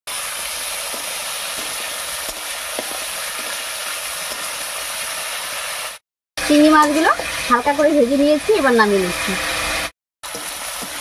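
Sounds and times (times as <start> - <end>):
prawns sizzling in hot oil: 0.1 - 11.0.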